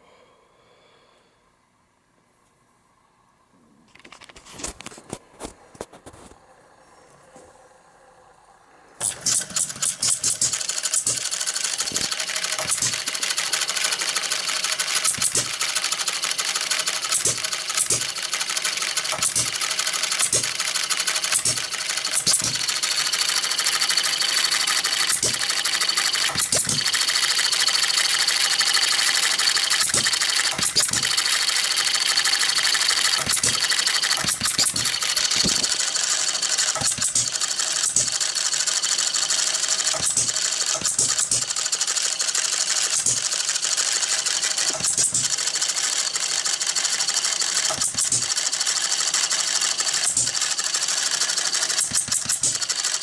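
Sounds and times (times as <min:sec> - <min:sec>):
engine mechanical clatter: 0:09.0 - 0:53.0.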